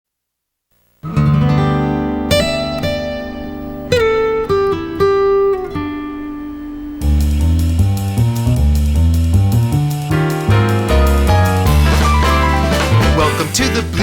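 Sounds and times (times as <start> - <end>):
acoustic guitar strumming chords: 1.0 - 8.7, 9.4 - 14.0.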